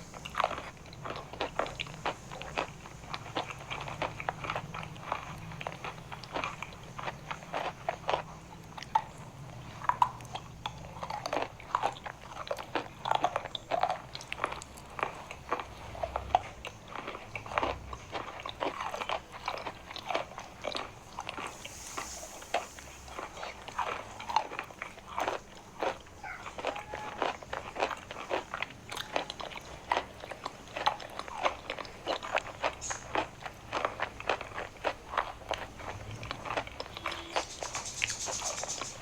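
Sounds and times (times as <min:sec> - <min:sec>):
chalk crunching as it is chewed: 0:00.0 - 0:39.0.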